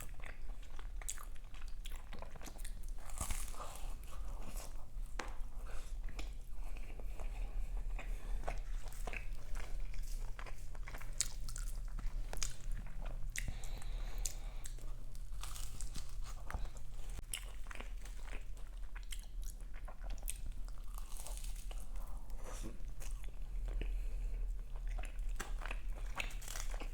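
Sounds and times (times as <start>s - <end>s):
chewing crunchy pastry: 0.0s - 26.9s
low electrical hum: 0.0s - 26.9s.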